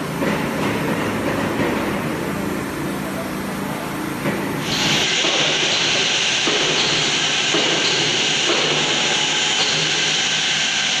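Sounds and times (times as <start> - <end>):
loud factory hiss: 0.6 - 11.0.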